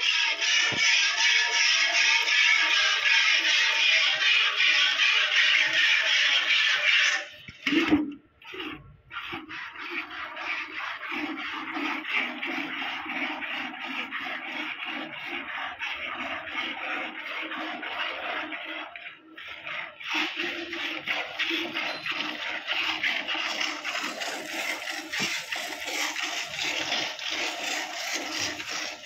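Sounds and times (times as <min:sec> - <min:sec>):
milk squirting into steel bucket: 0:00.0 - 0:29.0.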